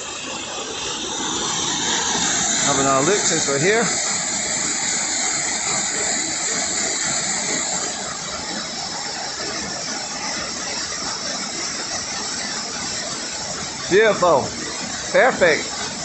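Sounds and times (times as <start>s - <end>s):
waterfall and river rushing: 0.0s - 16.0s.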